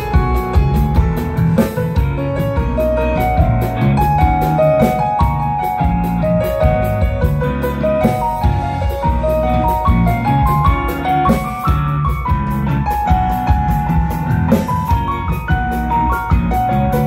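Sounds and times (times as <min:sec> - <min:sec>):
bass guitar: 0:00.0 - 0:17.0
drum kit beat: 0:00.0 - 0:17.0
electric guitars: 0:00.0 - 0:17.0
keyboard: 0:00.0 - 0:17.0.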